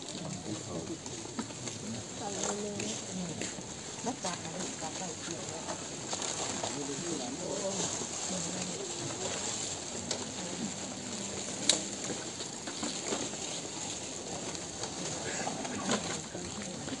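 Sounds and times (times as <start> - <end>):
crowd murmuring: 0.0 - 17.0.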